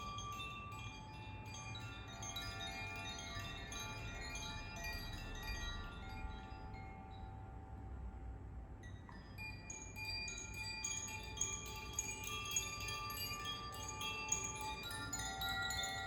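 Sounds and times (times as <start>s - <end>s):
wind chime ringing: 0.0s - 7.3s, 9.2s - 16.0s.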